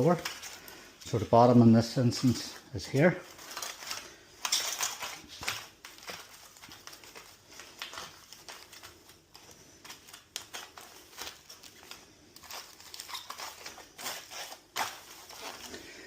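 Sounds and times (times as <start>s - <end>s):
plastic trim scraping and rustling: 0.0s - 16.0s.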